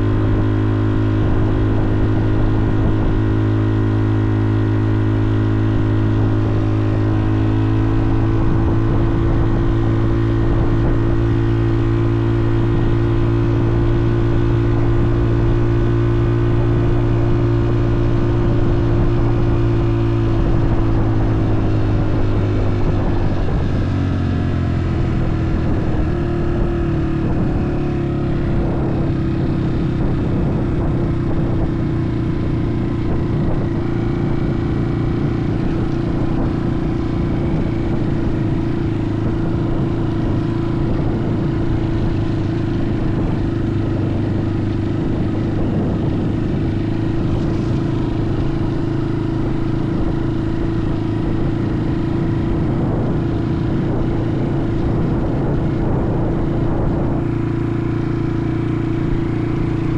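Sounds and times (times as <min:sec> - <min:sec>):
motorbike engine running: 0:00.0 - 0:59.9.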